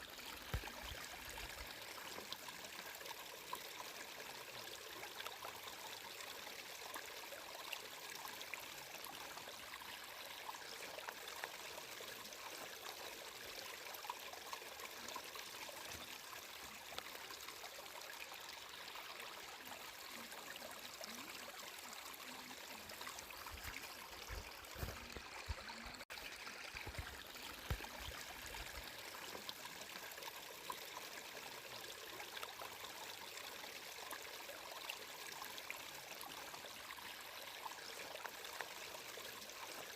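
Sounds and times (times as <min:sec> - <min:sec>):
water flowing in stream: 0:00.0 - 0:39.9.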